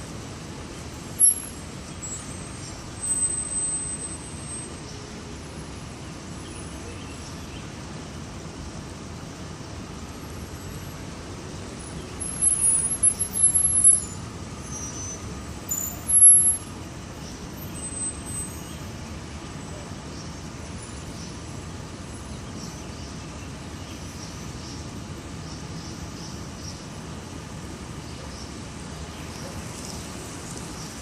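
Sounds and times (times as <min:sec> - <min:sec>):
city traffic rumble: 0:00.0 - 0:31.0.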